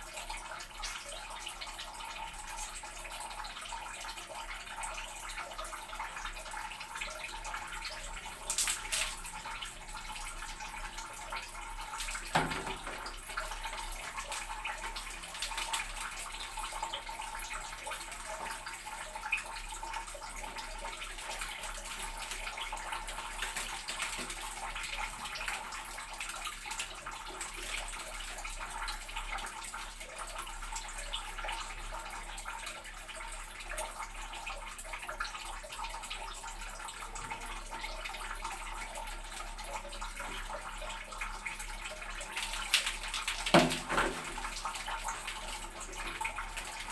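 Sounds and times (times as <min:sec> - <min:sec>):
water running from a tap: 0:00.0 - 0:46.9.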